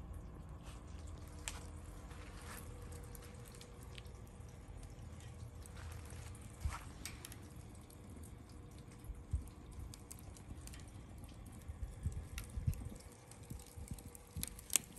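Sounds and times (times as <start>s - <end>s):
wood fire crackling: 0.0s - 14.9s
sharp pops from burning logs: 1.0s - 14.9s.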